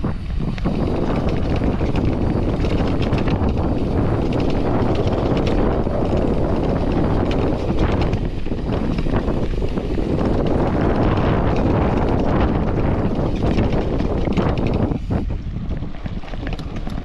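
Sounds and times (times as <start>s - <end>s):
bike clicks and rattles: 0.0s - 17.0s
tyres rumbling on dirt and gravel: 0.0s - 17.0s
wind rushing over microphone: 0.0s - 17.0s.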